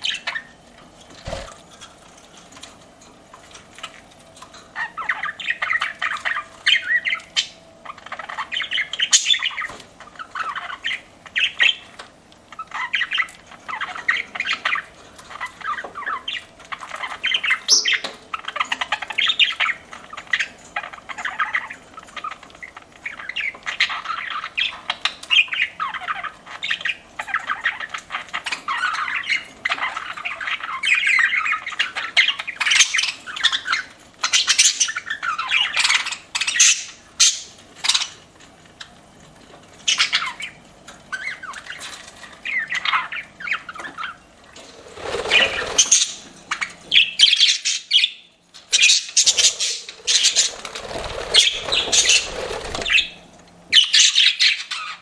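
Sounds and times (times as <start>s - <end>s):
budgerigars chirping and warbling: 0.0s - 0.6s, 4.6s - 39.0s, 39.8s - 55.0s.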